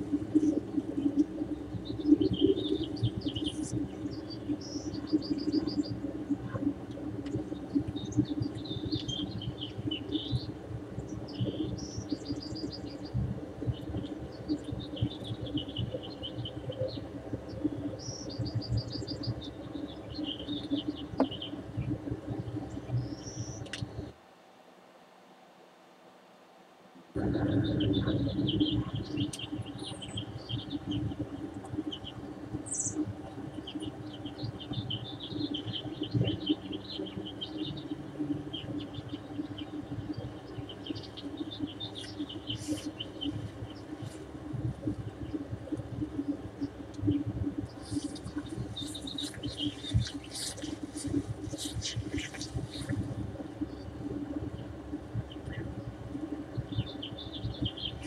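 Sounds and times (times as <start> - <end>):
small birds chirping: 0.0 - 24.2, 27.2 - 58.0
steady low hum: 0.0 - 58.0.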